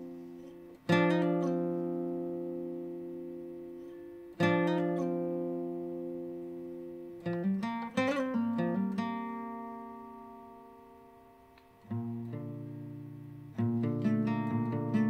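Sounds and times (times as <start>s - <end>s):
acoustic guitar chords and notes: 0.0s - 15.0s.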